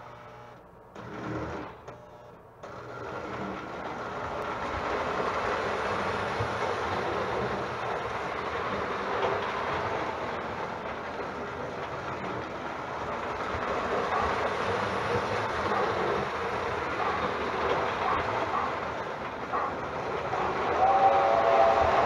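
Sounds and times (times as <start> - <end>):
toy train motor whirring: 2.7 - 22.0.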